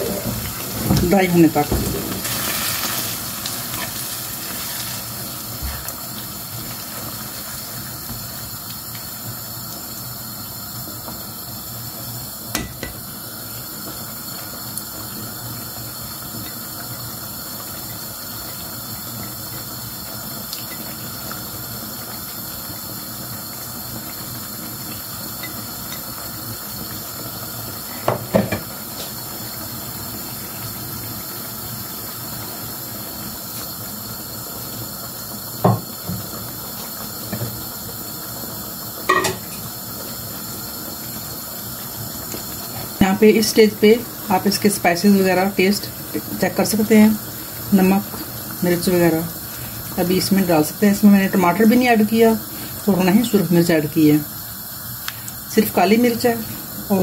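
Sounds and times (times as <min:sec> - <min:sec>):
curry simmering with a hiss: 0:00.0 - 0:57.0.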